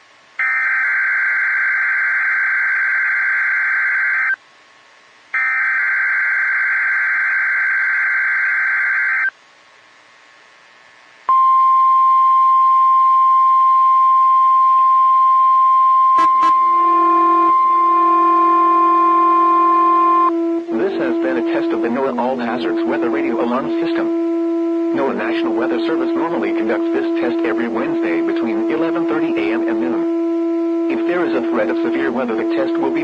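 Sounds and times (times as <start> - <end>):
steady warning alarm tone: 0.4 - 4.4, 5.4 - 9.3, 11.3 - 33.0.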